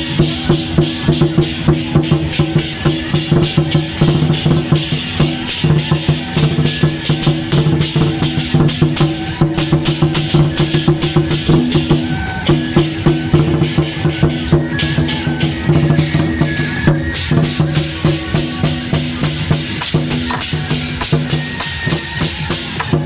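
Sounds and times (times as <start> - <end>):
rapid percussion strikes: 0.0 - 23.0.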